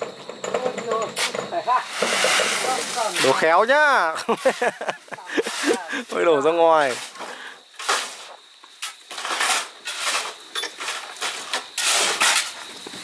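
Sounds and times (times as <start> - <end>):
metal tools scraping concrete: 1.0 - 12.6.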